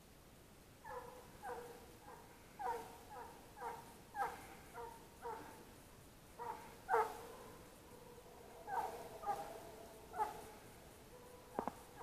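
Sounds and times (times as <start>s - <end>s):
faint hound baying: 0.8s - 5.6s, 6.4s - 12.0s.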